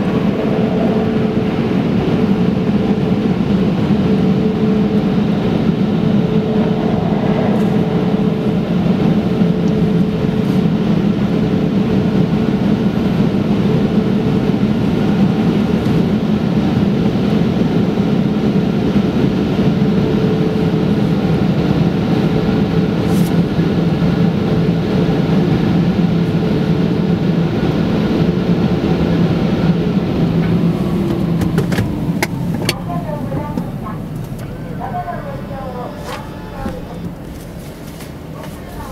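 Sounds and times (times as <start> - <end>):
car wash machinery drone: 0.0 - 38.9.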